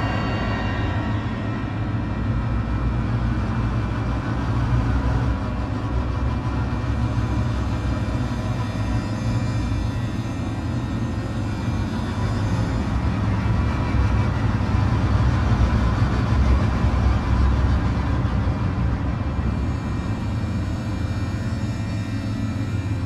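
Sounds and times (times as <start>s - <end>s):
low rumbling drone: 0.0s - 23.0s.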